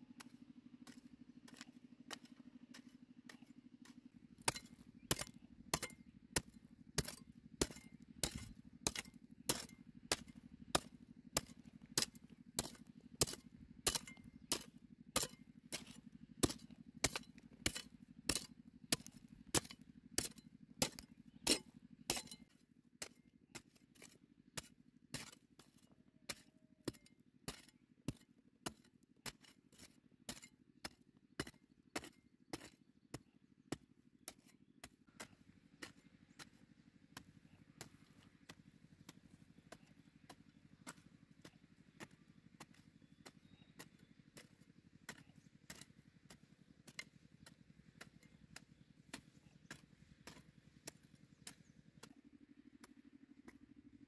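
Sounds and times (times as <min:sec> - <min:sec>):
low background hum: 0:00.0 - 0:54.0
hand tool chopping: 0:00.2 - 0:52.2.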